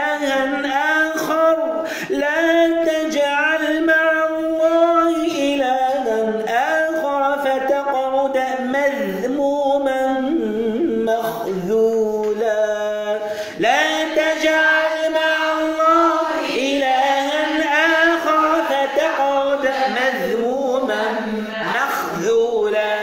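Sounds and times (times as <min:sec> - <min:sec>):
man chanting recitation: 0:00.0 - 0:23.0.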